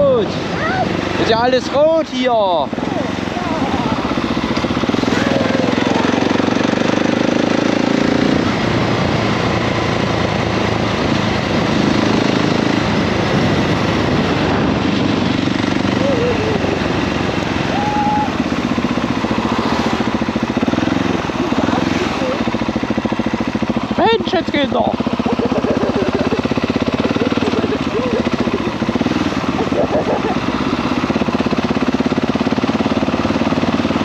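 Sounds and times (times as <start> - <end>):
single-cylinder engine running: 0.0 - 34.0.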